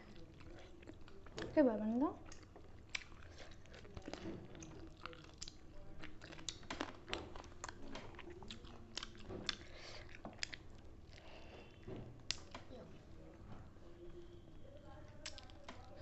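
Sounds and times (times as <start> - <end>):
chewing and biting food: 0.0 - 1.6, 2.2 - 13.1, 15.1 - 16.0.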